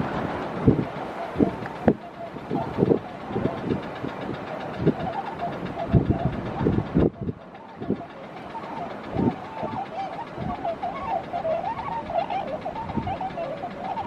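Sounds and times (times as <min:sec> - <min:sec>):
swans honking: 0:00.0 - 0:14.0
wind buffeting microphone: 0:00.0 - 0:14.0.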